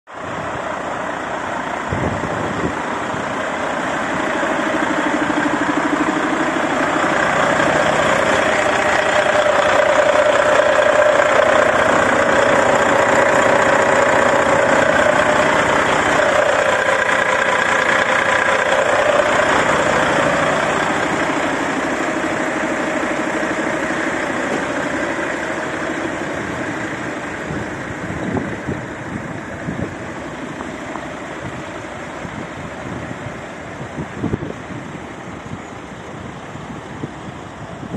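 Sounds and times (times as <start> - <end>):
diesel truck engine idling: 0.1 - 37.9.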